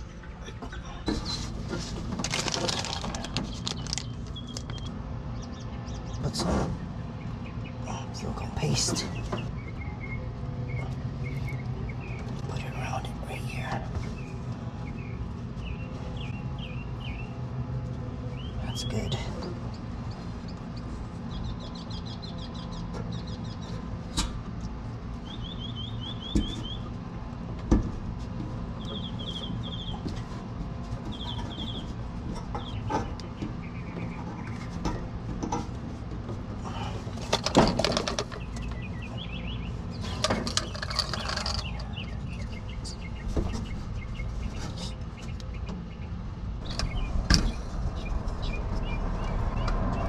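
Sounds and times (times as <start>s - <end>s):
steady low hum: 0.0s - 50.0s
small birds chirping: 2.3s - 17.6s, 18.2s - 27.1s, 28.6s - 50.0s.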